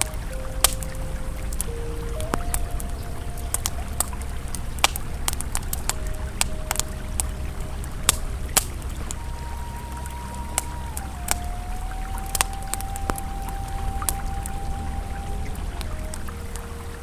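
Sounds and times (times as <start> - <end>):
campfire crackling and popping: 0.0 - 17.0
river flowing: 0.0 - 17.0.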